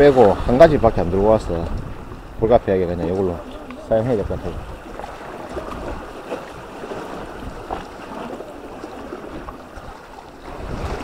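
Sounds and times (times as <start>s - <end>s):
sea water washing and splashing: 0.0s - 11.0s
wind rumble on microphone: 0.0s - 11.0s.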